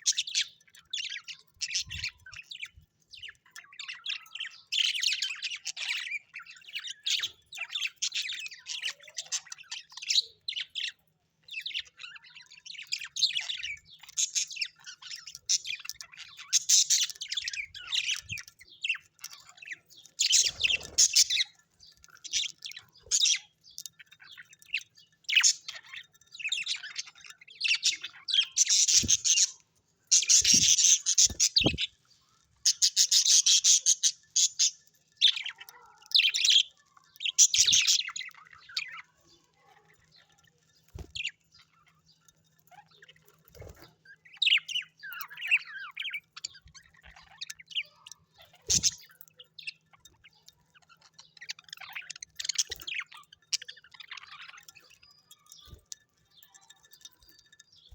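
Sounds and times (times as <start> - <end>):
harsh squawky bird calls: 0.0 - 11.0, 11.8 - 57.9
birds chirping and twittering: 0.0 - 57.9.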